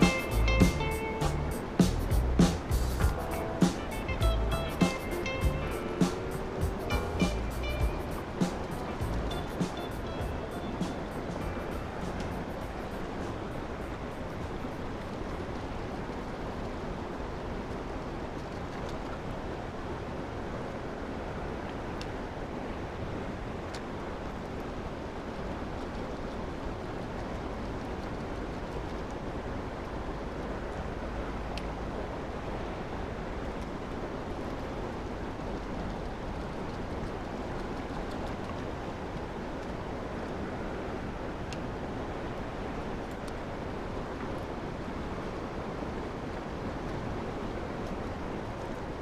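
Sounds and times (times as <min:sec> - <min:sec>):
river rushing over rocks: 0:00.0 - 0:49.0.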